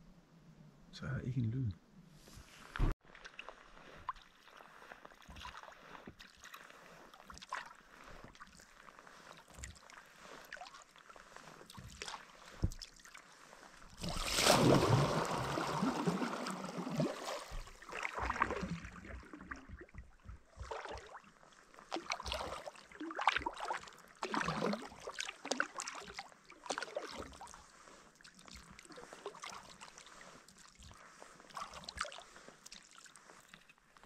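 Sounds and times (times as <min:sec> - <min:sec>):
paddle strokes in water: 0:02.2 - 0:34.0
water against hull: 0:02.4 - 0:34.0.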